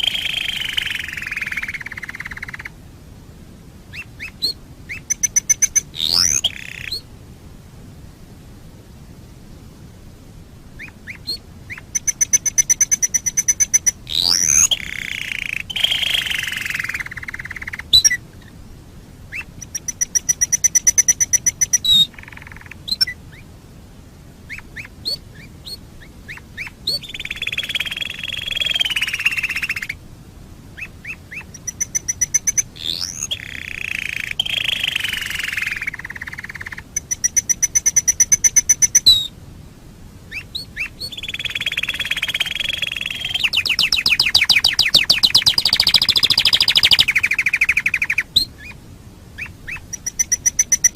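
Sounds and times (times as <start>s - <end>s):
canary singing trills: 0.0s - 2.7s, 3.9s - 7.1s, 10.8s - 18.6s, 19.3s - 23.5s, 24.5s - 30.0s, 30.8s - 39.3s, 40.3s - 48.8s, 49.4s - 50.9s.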